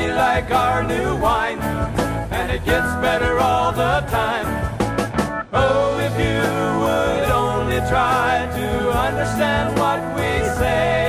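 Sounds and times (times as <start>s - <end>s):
gospel band music with singing: 0.0s - 11.0s.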